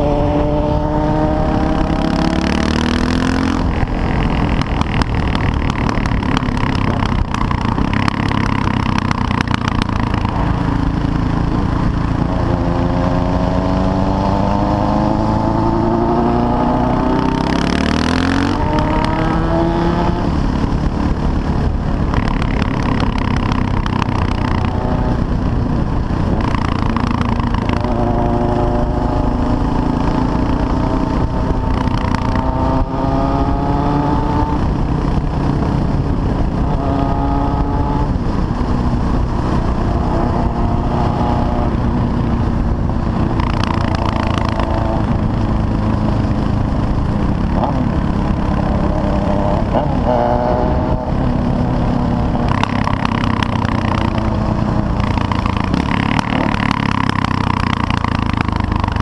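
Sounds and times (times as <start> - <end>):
motorcycle engine accelerating: 0.0 - 59.0
wind noise on microphone: 0.0 - 59.0.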